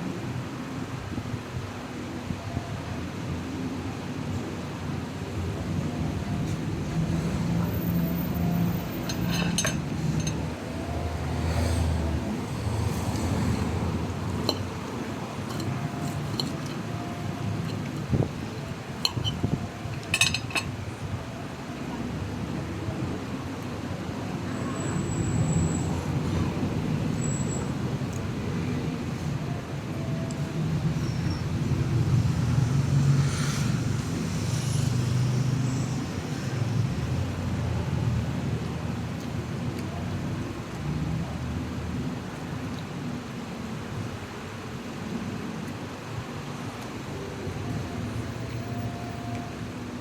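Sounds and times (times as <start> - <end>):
road traffic rumbling: 0.0 - 50.0.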